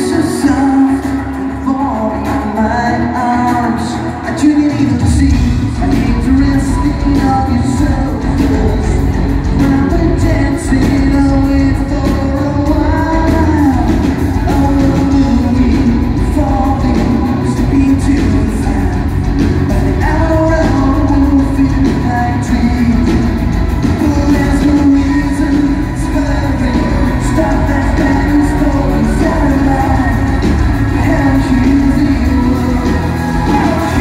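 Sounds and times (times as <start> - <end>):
man singing through pa: 0.0 - 34.0
rock band playing: 0.0 - 34.0.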